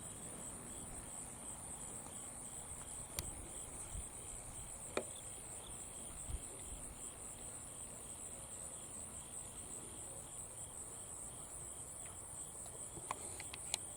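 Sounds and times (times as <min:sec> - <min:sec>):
insects trilling: 0:00.0 - 0:13.9.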